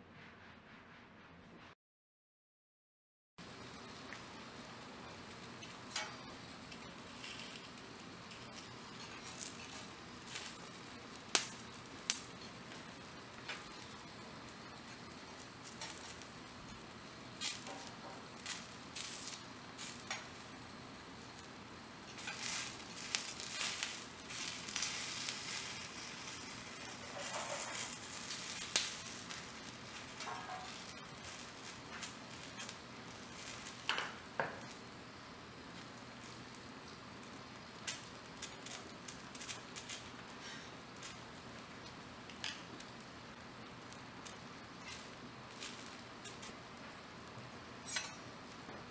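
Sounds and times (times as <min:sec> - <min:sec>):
steak sizzling and popping: 0:03.4 - 0:48.9.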